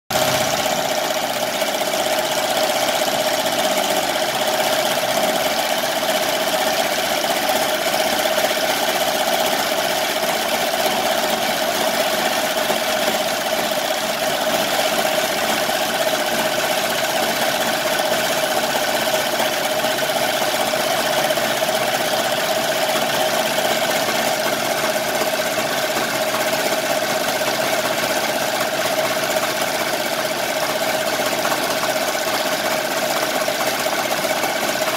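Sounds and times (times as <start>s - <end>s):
embroidery machine stitching: 0.1s - 34.9s.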